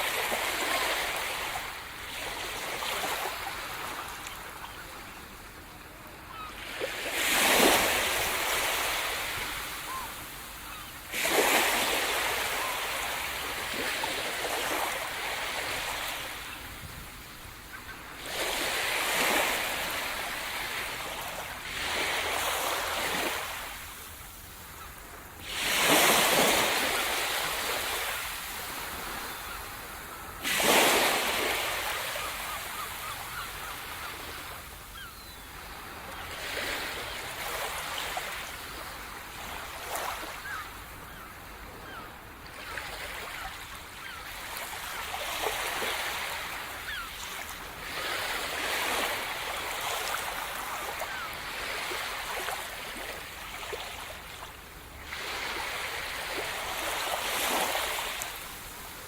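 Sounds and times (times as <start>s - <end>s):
waves crashing on shore: 0.0s - 5.5s, 6.2s - 41.2s, 44.0s - 59.0s.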